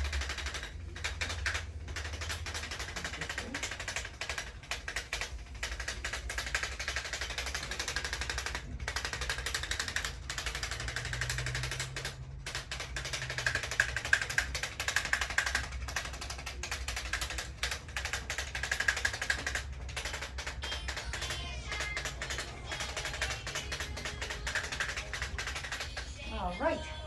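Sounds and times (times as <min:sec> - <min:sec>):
electric percussion device tapping: 0:00.0 - 0:26.1.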